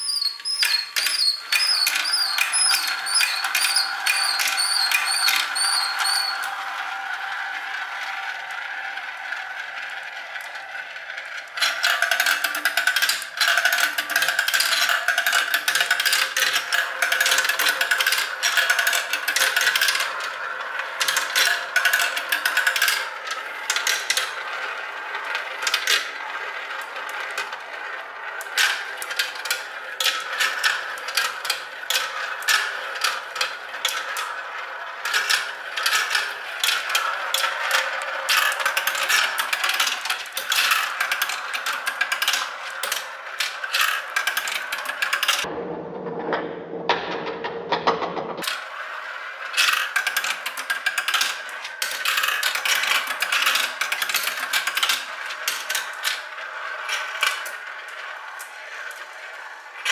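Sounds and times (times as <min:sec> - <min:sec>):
marbles clicking on plastic track: 0:00.0 - 0:45.5, 0:47.8 - 0:59.9
marbles rolling hum: 0:00.0 - 0:59.9.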